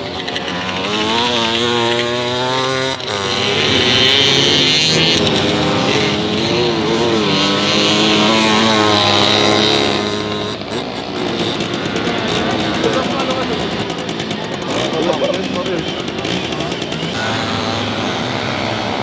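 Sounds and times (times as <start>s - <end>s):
two-stroke motorcycle engines revving: 0.0s - 19.0s.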